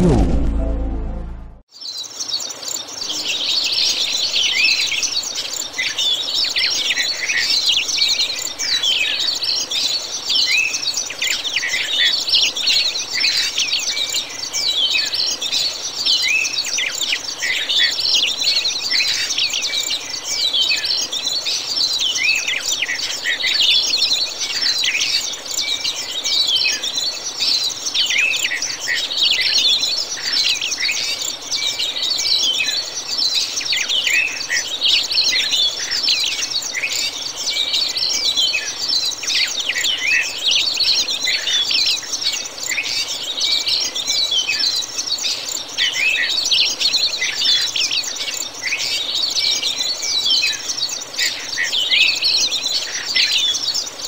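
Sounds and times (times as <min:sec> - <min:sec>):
flock of birds chirping: 0:01.8 - 0:54.0.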